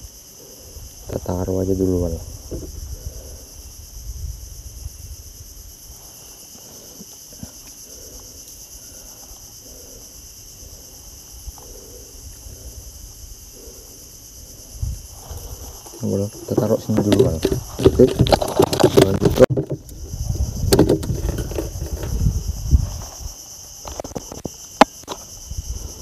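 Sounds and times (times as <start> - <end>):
insects calling: 0.0 - 26.0.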